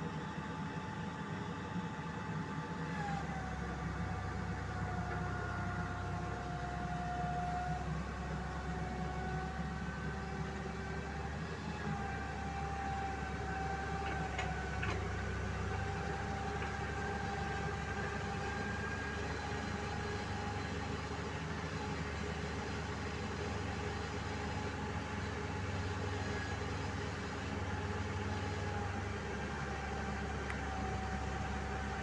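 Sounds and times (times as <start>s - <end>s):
harvester engine drone: 2.9s - 32.0s.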